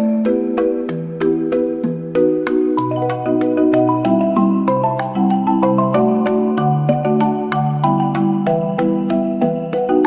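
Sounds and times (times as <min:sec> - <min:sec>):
mallet percussion tune: 0:00.0 - 0:10.0.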